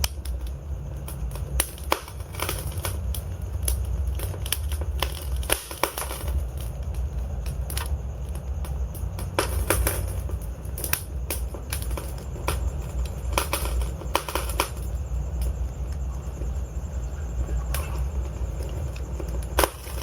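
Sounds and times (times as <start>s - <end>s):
logs burning and crackling: 0.0s - 20.0s.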